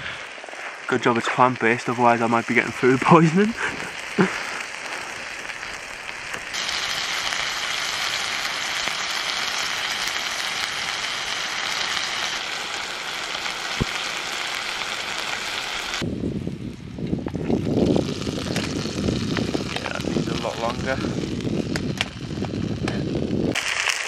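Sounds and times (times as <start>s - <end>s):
burgers sizzling in a frying pan: 0.0s - 16.1s, 17.5s - 24.0s.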